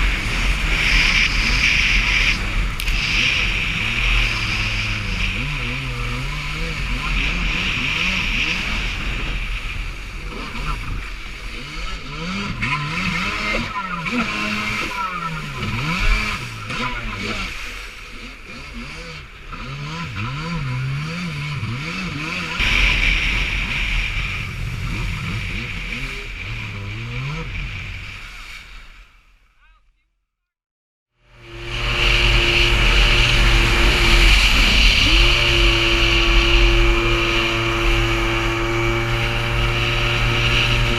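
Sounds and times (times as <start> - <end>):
jet ski engine revving: 0.0 - 29.0, 31.2 - 40.9
rushing water noise: 0.0 - 29.1, 31.4 - 40.9.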